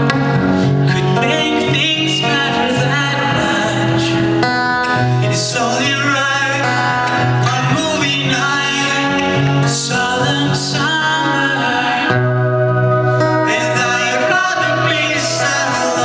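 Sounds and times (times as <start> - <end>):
acoustic guitar: 0.0 - 16.0
keyboard: 0.0 - 16.0
man singing: 0.8 - 16.0.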